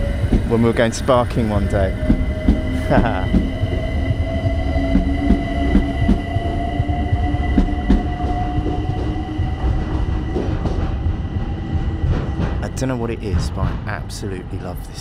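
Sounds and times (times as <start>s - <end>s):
electric train motor whine: 0.0s - 12.6s.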